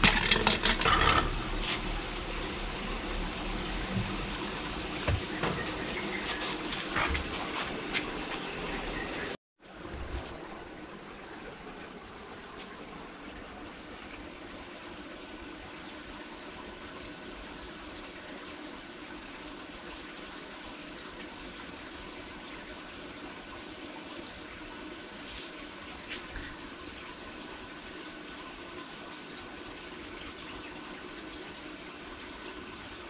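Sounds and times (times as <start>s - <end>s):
water-like rushing noise: 0.0s - 33.0s.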